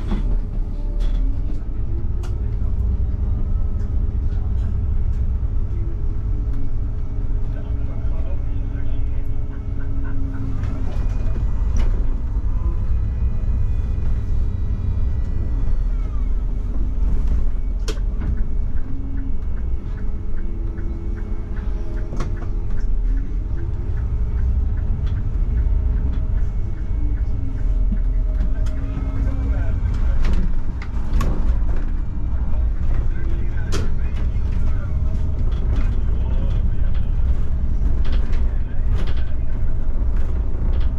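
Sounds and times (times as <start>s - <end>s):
bus engine rumble and whine: 0.0s - 40.9s.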